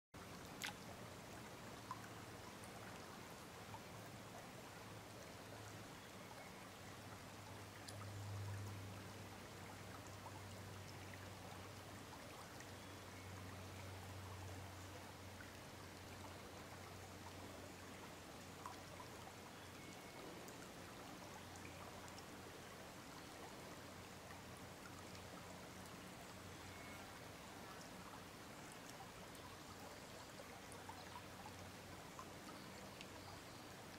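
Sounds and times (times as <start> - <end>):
stream running over gravel: 0.2 - 33.9.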